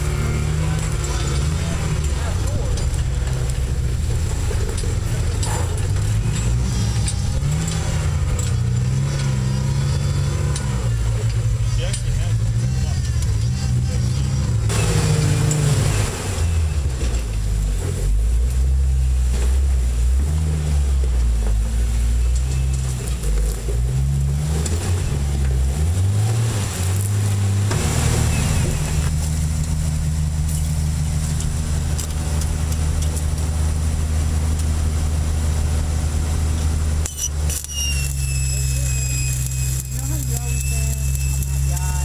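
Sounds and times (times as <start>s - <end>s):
off-road engine revving: 0.0s - 42.0s.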